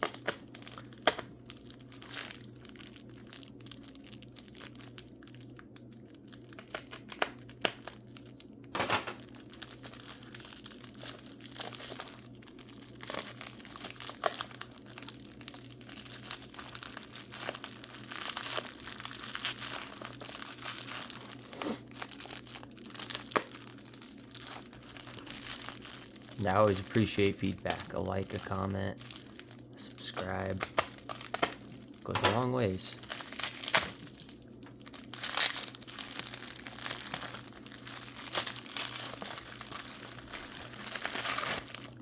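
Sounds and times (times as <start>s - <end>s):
faint low hum: 0.0s - 42.0s
packing material crinkling and tearing: 0.0s - 42.0s.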